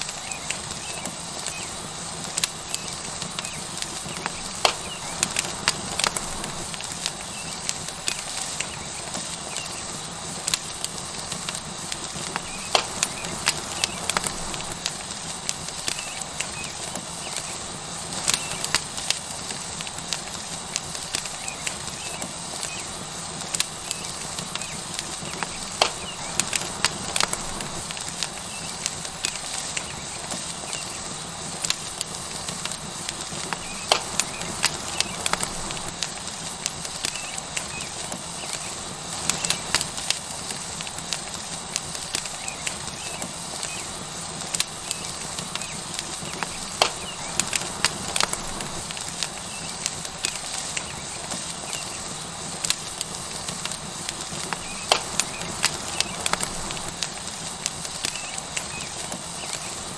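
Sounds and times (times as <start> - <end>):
steak sizzling on hot rock: 0.0 - 59.9
wood fire crackling and popping: 0.0 - 59.9.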